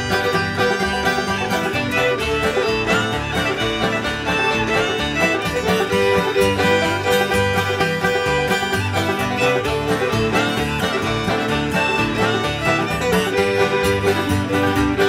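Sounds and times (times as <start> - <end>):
string band playing upbeat instrumental: 0.0 - 15.0.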